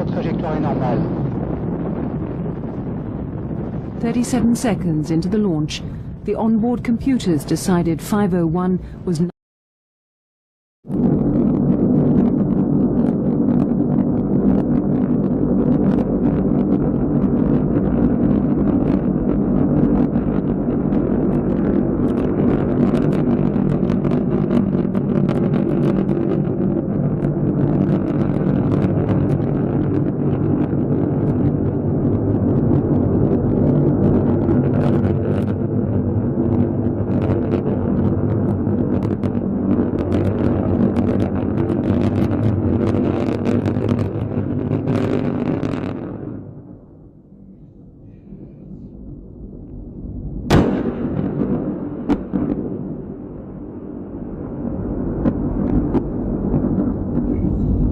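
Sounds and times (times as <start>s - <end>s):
rocket engines rumbling: 0.0s - 9.3s, 10.9s - 57.9s.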